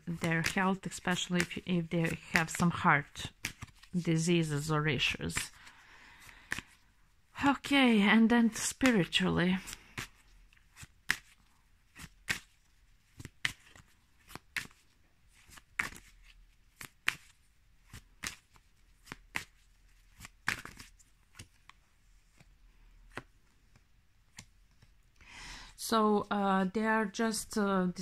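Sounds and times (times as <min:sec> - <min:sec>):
cards being shuffled: 0:00.0 - 0:06.8, 0:08.5 - 0:25.0.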